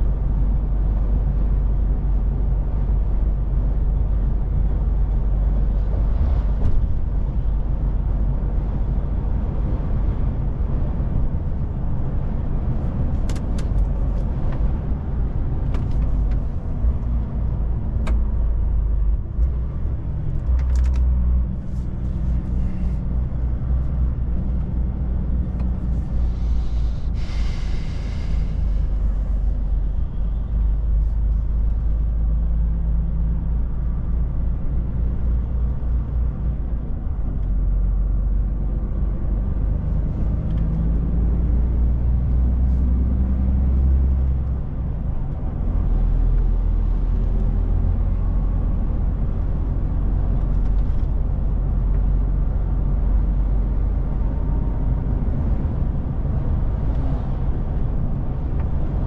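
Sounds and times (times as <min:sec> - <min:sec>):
diesel engine drone: 0:00.0 - 0:59.0
road noise: 0:00.0 - 0:59.0.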